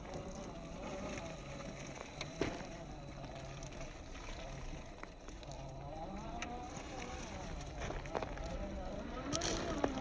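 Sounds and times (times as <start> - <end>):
electric motor and gears whining: 0.0 - 10.0.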